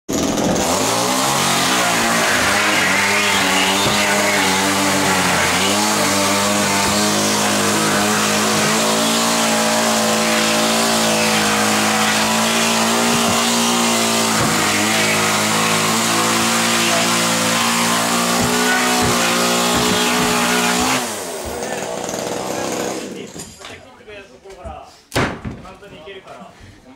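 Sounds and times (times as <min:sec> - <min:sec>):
chainsaw cutting wood: 0:00.1 - 0:23.4.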